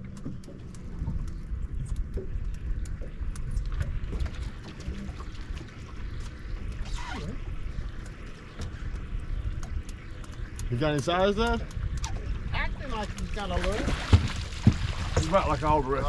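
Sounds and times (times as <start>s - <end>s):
water splashing and sloshing: 0.0s - 16.0s.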